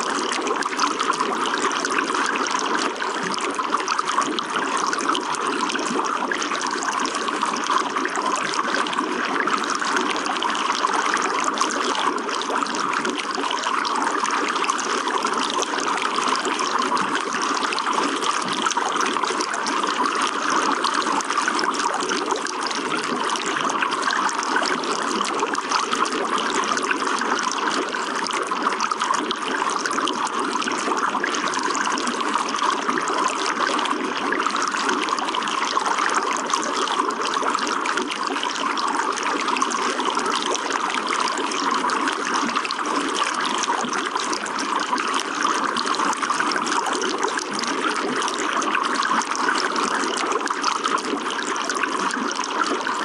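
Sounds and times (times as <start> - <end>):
water trickling and splashing: 0.0 - 53.0.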